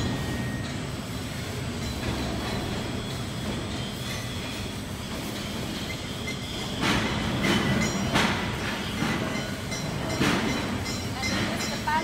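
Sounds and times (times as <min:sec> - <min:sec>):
mechanical hum of tilt drive: 0:00.0 - 0:12.0.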